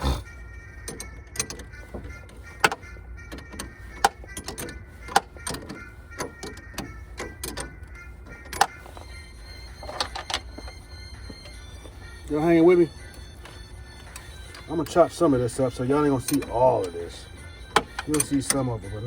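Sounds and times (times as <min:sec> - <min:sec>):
hand tools clicking and knocking: 0:00.8 - 0:19.0.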